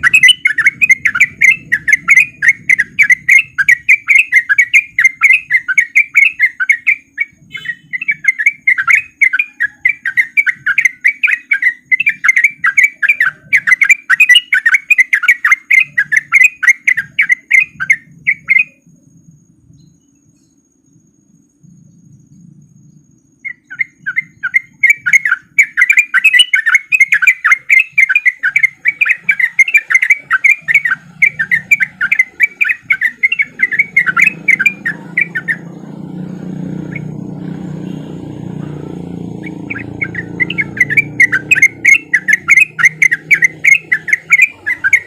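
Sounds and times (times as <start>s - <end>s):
bird chattering song: 0.0s - 45.0s.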